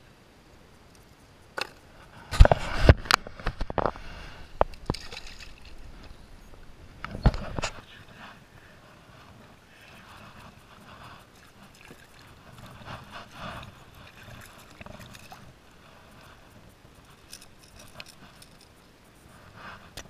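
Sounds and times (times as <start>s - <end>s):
water lapping at a kayak: 1.7s - 19.9s.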